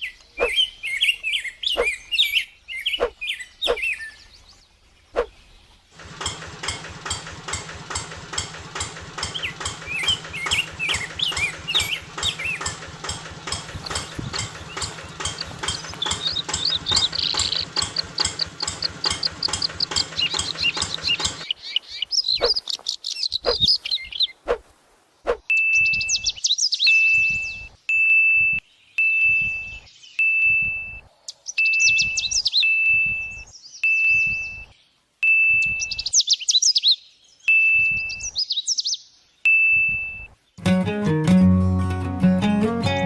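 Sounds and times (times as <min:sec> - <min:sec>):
bird-like chirping: 0:00.0 - 0:05.6, 0:09.2 - 0:24.6, 0:25.3 - 0:40.4.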